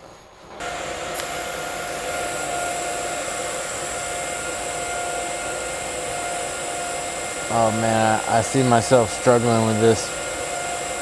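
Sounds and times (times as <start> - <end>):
welding arc hissing and humming: 0.0 - 11.0.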